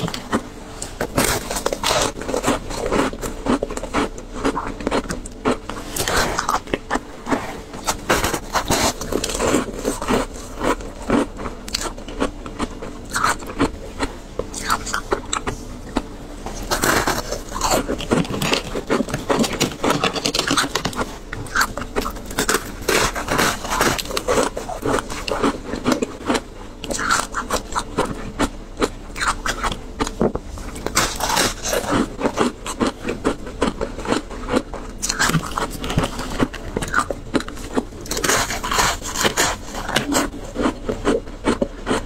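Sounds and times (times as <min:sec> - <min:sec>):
crunching frozen ice: 0:00.0 - 0:42.0.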